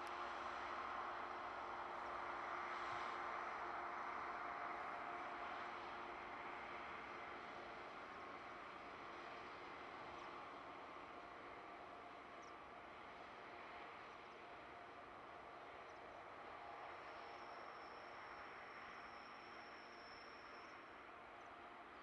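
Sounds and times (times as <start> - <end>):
distant diesel locomotive drone: 0.0 - 22.0.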